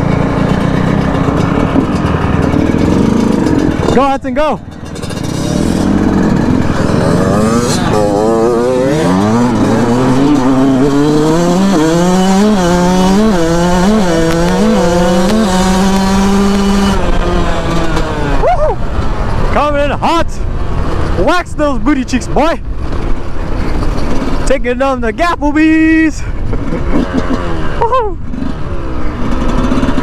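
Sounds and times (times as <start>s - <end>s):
dirt bike engines at full throttle: 0.0s - 30.0s.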